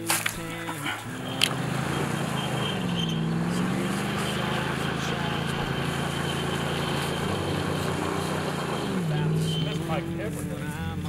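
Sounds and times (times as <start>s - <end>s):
truck engine revving high: 0.0s - 11.0s.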